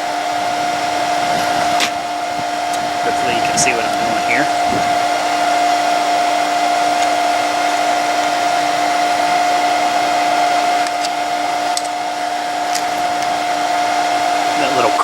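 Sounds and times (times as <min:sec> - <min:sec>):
electric air blower whine: 0:00.0 - 0:15.0.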